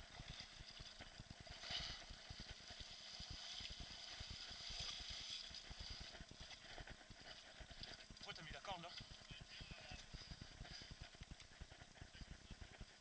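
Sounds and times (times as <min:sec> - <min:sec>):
low irregular rumbles: 0:00.0 - 0:13.0.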